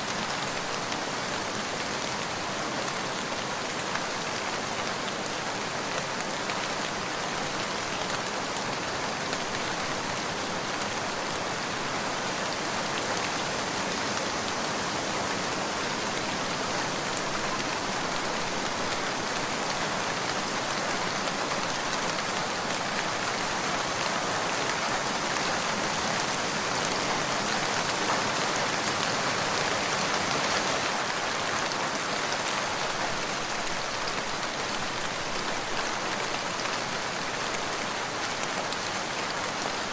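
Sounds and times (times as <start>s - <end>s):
rain pattering on surface: 0.0s - 39.9s.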